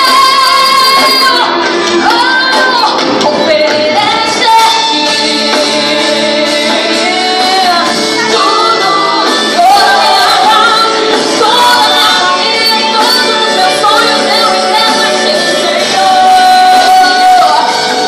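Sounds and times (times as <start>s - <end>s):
band holding chords: 0.0s - 18.0s
woman singing: 0.0s - 18.0s.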